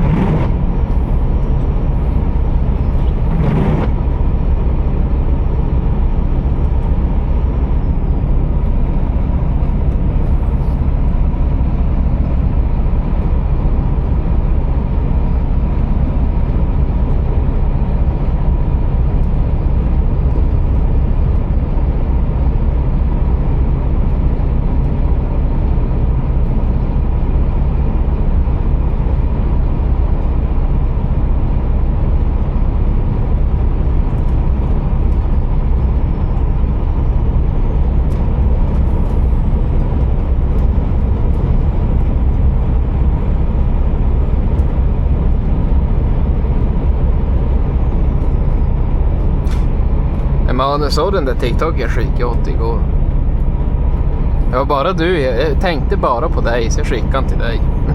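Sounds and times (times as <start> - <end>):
diesel truck engine droning: 0.0 - 57.9.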